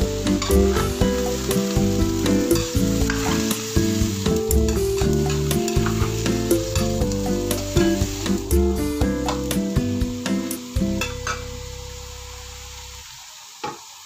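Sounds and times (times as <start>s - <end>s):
background music with steady beat: 0.0s - 11.8s
vegetables sizzling in a pan: 0.0s - 14.0s.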